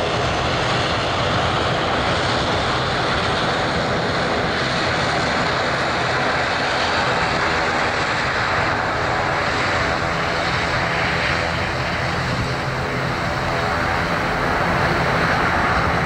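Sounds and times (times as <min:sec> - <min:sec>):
jet engines at take-off: 0:00.0 - 0:16.0.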